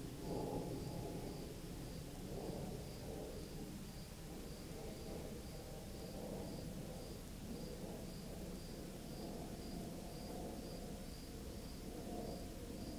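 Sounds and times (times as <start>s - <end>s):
cricket chirping: 0.2s - 12.9s.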